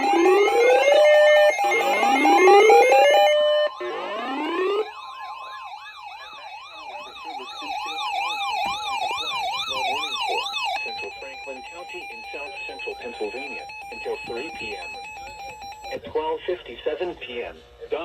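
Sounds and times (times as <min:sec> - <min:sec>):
electronic siren wailing: 0:00.0 - 0:16.0.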